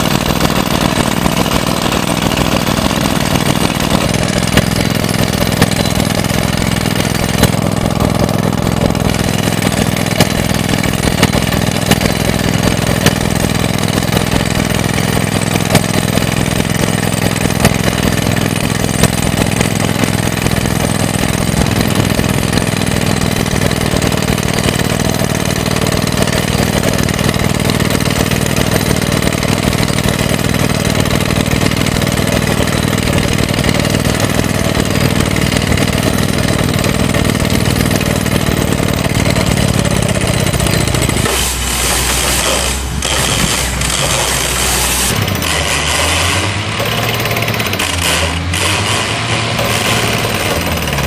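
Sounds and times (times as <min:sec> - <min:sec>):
engine running: 0:00.0 - 0:51.0
rock drill hammering: 0:00.0 - 0:51.0.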